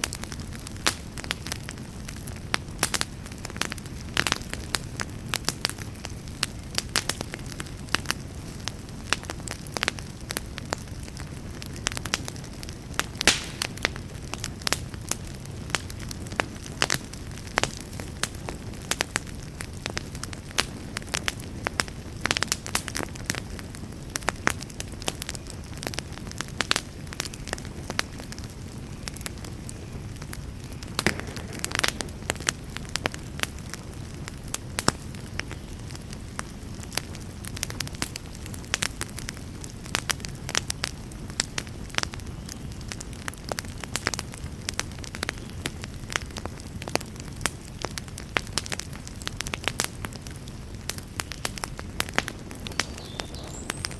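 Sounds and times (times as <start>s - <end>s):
campfire crackling: 0.0s - 53.9s
fire pops: 0.0s - 53.9s
low rush of flames: 0.0s - 53.9s.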